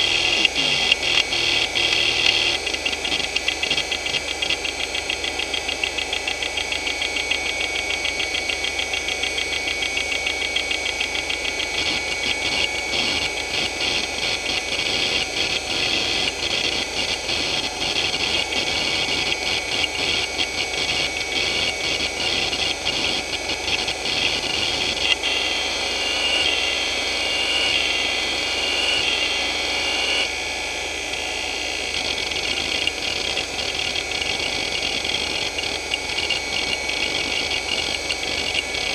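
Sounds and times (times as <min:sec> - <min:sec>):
hard drive high whine: 0:00.0 - 0:38.9.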